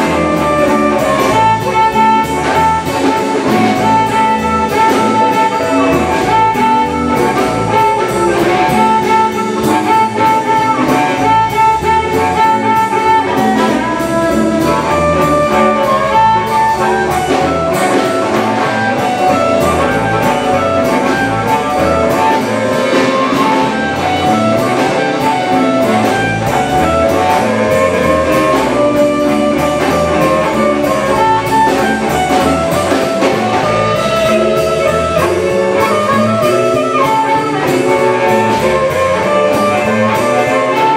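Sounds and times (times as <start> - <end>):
amplified blues harmonica: 0.0 - 40.9
drums: 0.0 - 40.9
electric bass: 0.0 - 40.9
electric guitar: 0.0 - 40.9.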